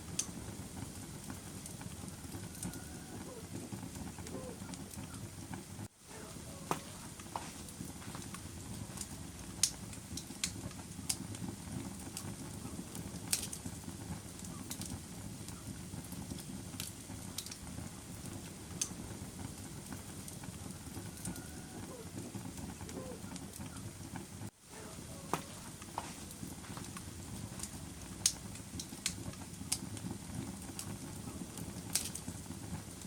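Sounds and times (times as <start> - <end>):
fire crackling and popping: 0.0 - 33.0
fire rushing flame: 0.0 - 33.0.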